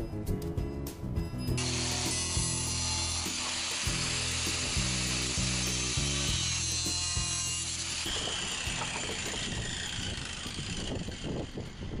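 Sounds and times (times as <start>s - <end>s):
angle grinder cutting plastic: 1.6s - 12.0s.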